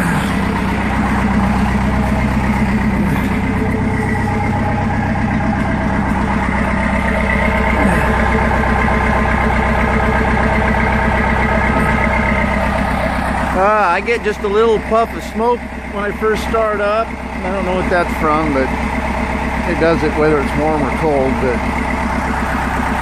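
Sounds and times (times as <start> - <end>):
diesel engine idling with clatter: 0.0 - 23.0.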